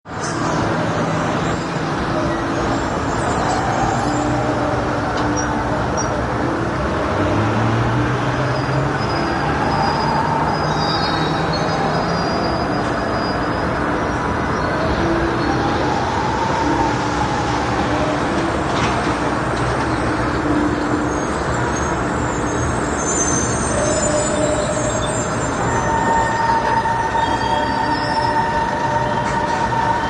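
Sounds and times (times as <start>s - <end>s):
city street traffic: 0.0s - 30.0s
brakes squealing: 0.1s - 30.0s
bus engine drone: 0.1s - 30.0s.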